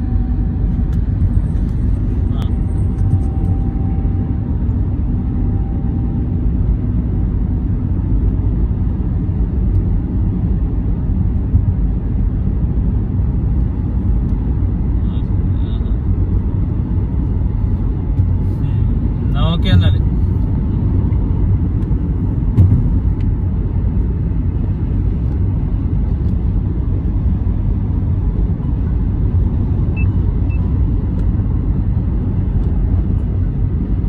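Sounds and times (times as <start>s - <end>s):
road noise inside car: 0.0s - 34.0s.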